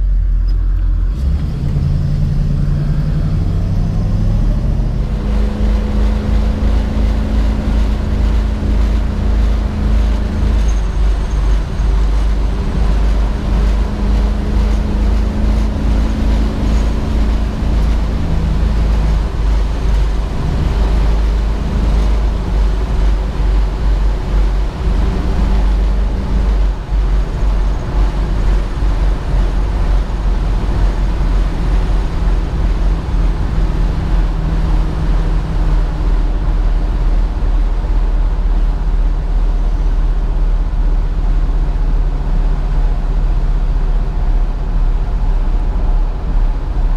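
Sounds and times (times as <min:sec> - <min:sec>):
car engine rumbling: 0:00.0 - 0:46.9
road noise: 0:00.0 - 0:46.9.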